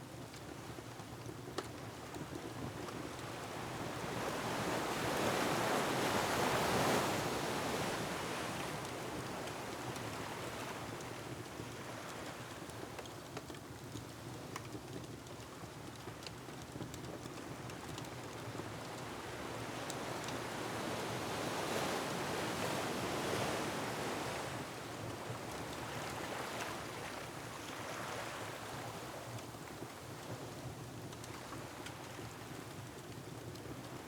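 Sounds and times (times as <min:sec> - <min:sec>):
crackling wood fire: 0:00.0 - 0:34.0.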